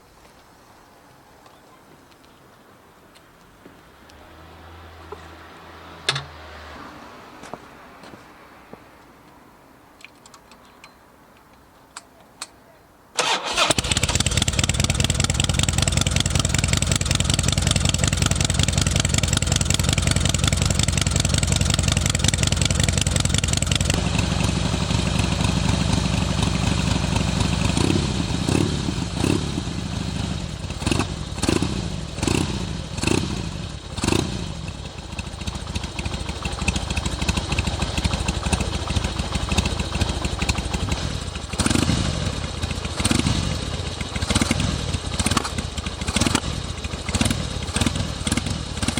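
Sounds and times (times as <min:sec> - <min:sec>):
motorcycle engine idling and revving: 0:04.0 - 0:08.2, 0:13.2 - 0:48.9.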